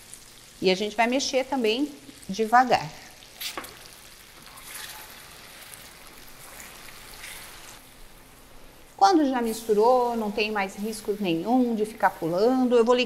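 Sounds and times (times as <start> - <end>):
caramel sizzling and bubbling: 0.0 - 13.0.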